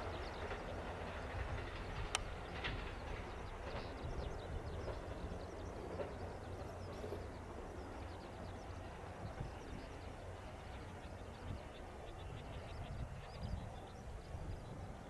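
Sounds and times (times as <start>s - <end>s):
distant diesel train rumble: 0.0s - 15.0s.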